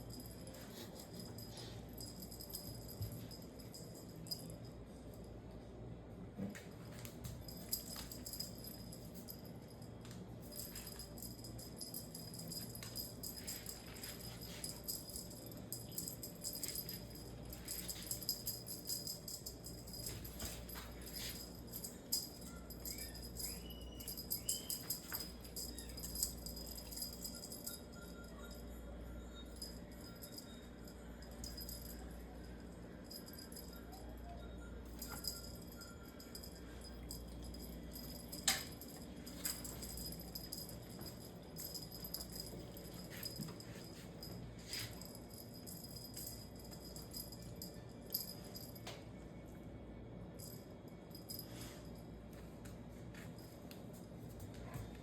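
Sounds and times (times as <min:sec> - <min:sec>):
small bells jingling: 0:00.0 - 0:05.3, 0:06.9 - 0:49.0, 0:50.4 - 0:52.1
low steady hum: 0:00.0 - 0:55.0.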